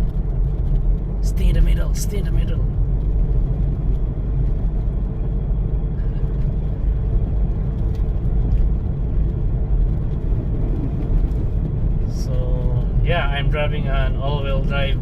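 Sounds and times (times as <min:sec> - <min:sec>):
engine and tyres rumbling in snow: 0:00.0 - 0:15.0.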